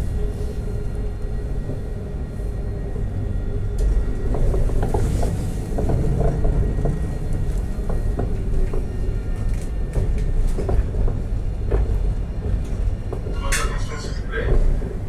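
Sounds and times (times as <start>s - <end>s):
tram rumble with hum: 0.0s - 15.0s.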